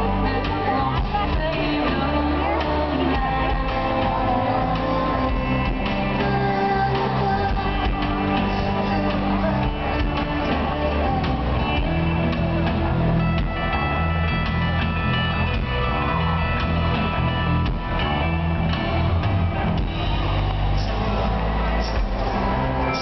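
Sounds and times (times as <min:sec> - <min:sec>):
bass guitar: 0:00.0 - 0:23.0
electric guitar: 0:00.0 - 0:23.0
live band music: 0:00.0 - 0:23.0.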